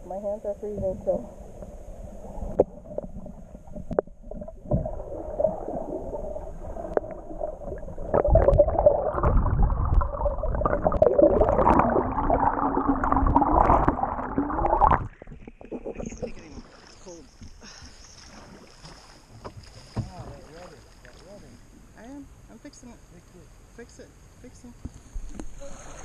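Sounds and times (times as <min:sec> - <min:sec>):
muffled water rushing underwater: 0:00.0 - 0:21.9.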